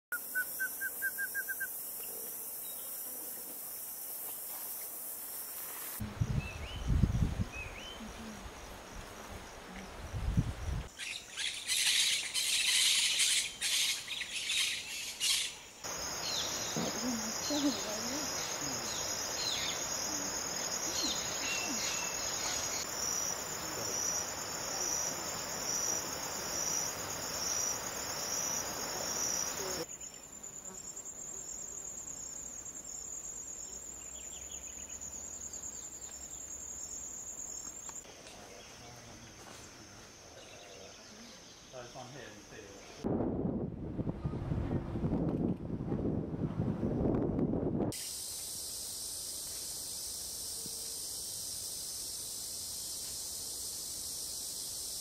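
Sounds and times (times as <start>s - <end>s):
high-pitched insect chorus: 0.1s - 43.0s, 47.9s - 55.0s.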